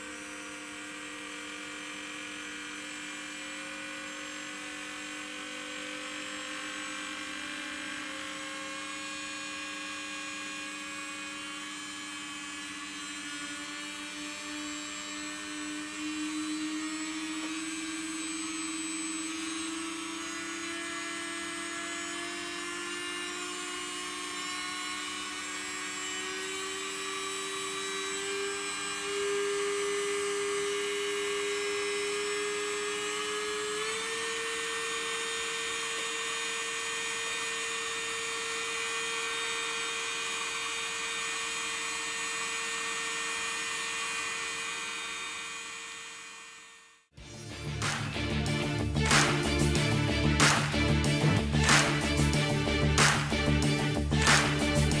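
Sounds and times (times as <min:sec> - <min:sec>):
spinning shaft whine: 0:00.0 - 0:55.0.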